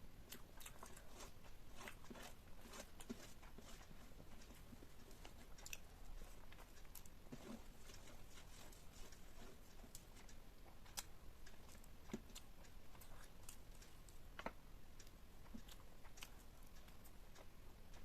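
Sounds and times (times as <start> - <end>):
close-miked eating and chewing: 0.0 - 18.0.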